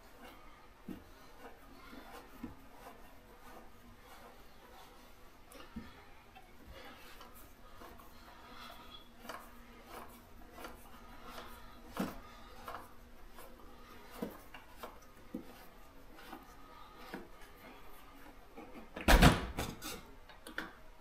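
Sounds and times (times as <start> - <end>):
small clicks and scrapes: 0.0 - 19.0.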